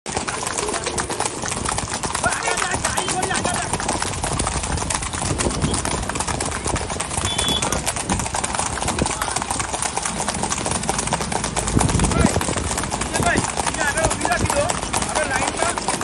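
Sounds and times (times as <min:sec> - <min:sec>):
horse hooves clattering on concrete: 0:00.0 - 0:16.0.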